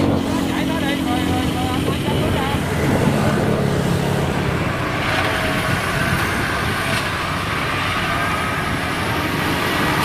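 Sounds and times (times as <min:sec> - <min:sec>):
combine harvester diesel engine: 0:00.0 - 0:10.0.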